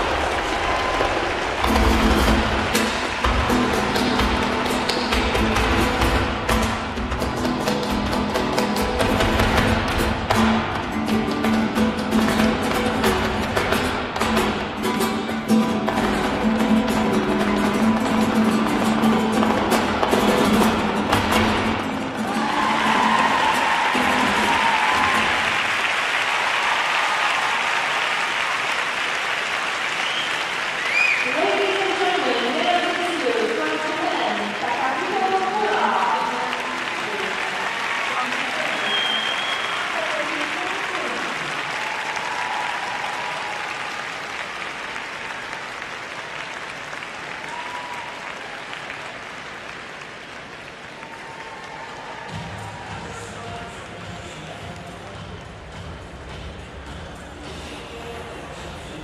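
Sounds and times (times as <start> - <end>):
audience applauding: 0.0 - 55.8.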